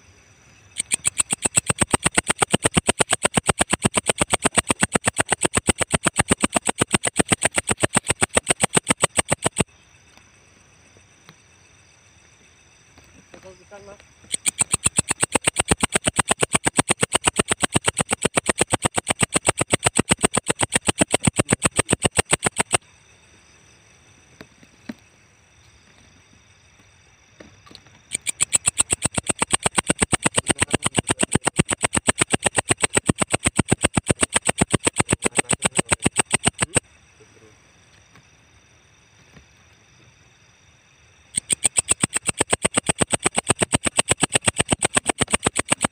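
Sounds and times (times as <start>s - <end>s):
insect stridulating in pulsed buzz: 0.0s - 45.9s.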